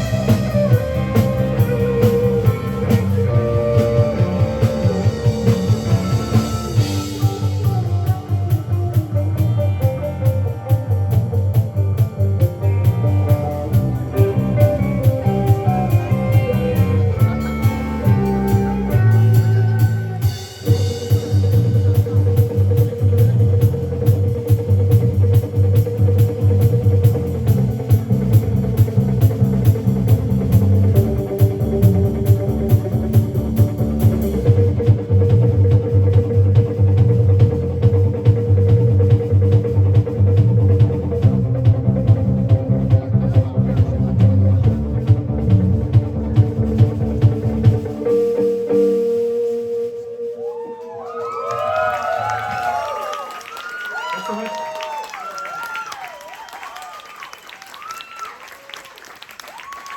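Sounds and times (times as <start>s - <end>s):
bass guitar: 0.0s - 50.5s
electric guitar: 0.0s - 52.9s
drum kit: 0.0s - 53.1s.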